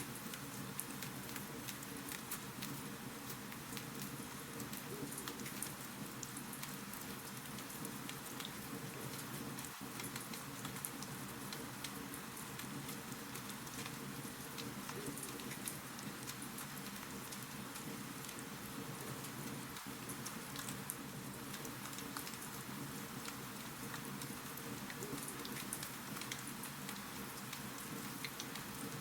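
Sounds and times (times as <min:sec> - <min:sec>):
fireplace fire crackling: 0:00.0 - 0:29.0.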